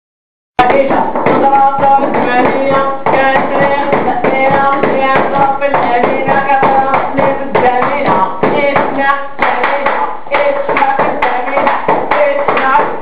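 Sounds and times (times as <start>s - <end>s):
rhythmic hand-clapping: 0.6s - 13.0s.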